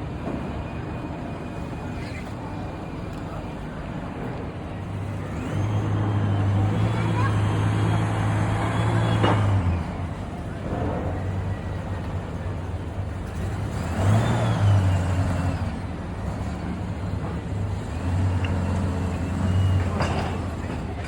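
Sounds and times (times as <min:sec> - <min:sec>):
car engines droning: 0:00.0 - 0:21.0.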